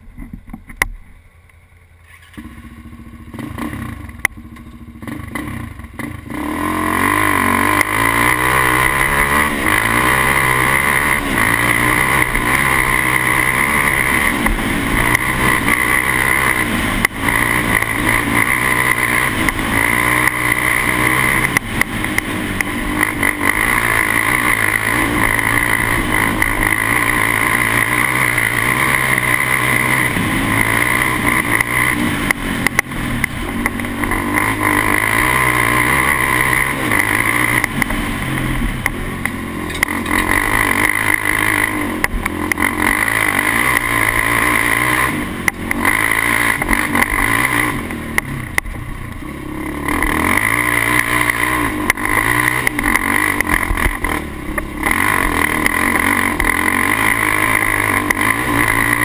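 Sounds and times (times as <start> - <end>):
quad engine running hard: 2.0 - 59.0.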